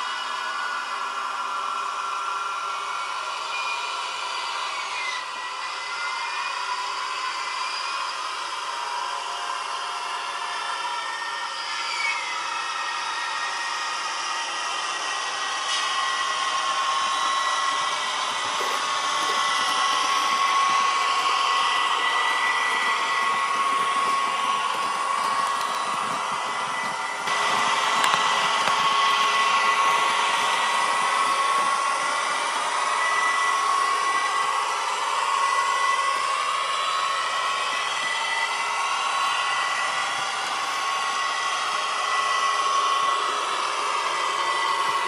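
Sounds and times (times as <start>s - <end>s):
model train motors whirring: 0.0s - 45.0s.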